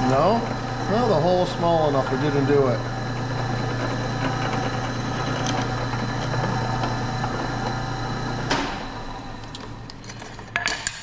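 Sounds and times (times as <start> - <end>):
electric drill motor humming: 0.0 - 10.0.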